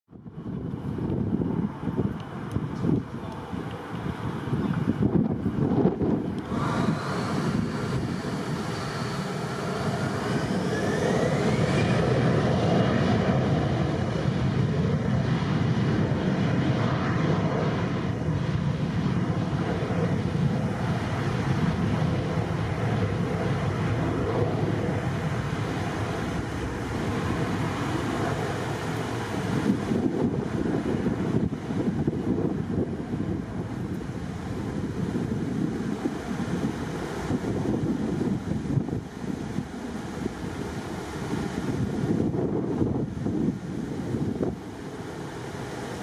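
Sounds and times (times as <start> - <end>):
wind buffeting microphone: 0.1 - 46.0
jet engines spooling up: 0.5 - 46.0.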